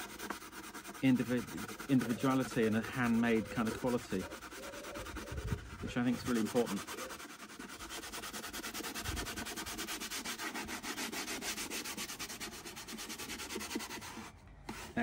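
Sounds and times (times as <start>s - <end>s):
sandpaper rubbing on wood: 0.0s - 15.0s.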